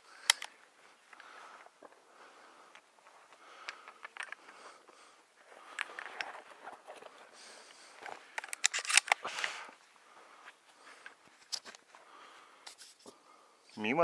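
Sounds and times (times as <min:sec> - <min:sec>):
rustling and handling noise: 0:00.0 - 0:13.9.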